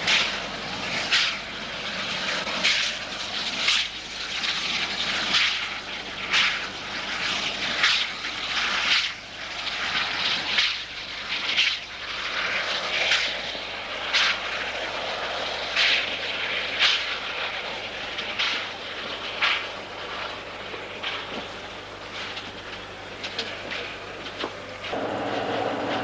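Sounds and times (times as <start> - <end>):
steam locomotive chuffing: 0.0 - 26.0
train running noise: 0.0 - 26.0.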